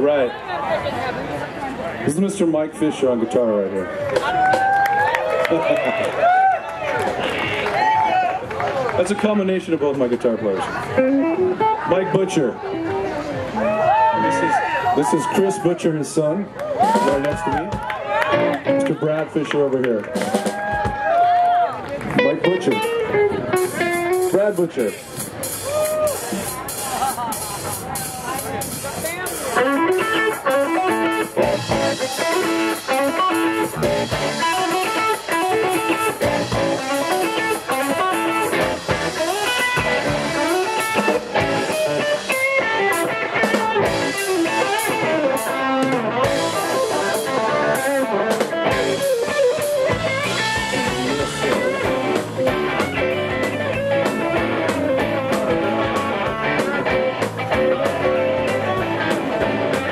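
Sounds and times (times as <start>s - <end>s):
rock band playing: 6.9s - 59.9s.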